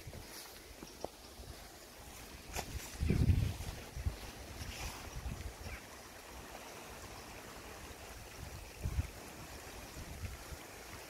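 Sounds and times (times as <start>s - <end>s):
floodwater rushing: 1.3s - 11.0s
wind rumbling on microphone: 1.4s - 11.0s.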